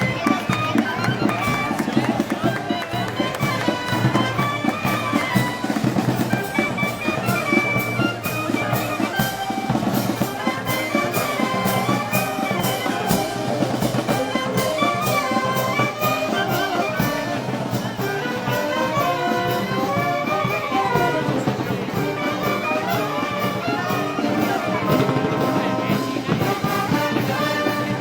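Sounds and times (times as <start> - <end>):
drums keeping steady beat: 0.0 - 28.0
trumpets playing melody: 0.0 - 28.0.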